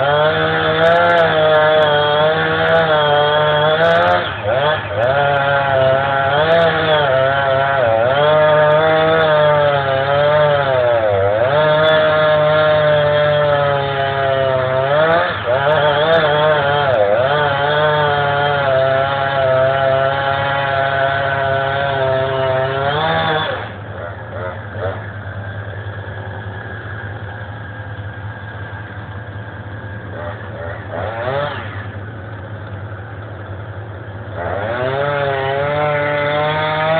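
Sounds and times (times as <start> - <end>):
chainsaw cutting a tree: 0.0 - 36.9.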